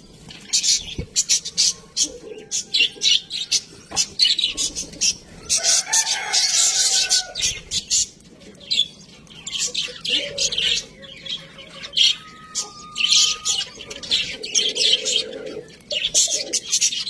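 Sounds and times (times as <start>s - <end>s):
budgerigars chirping: 0.3s - 17.0s.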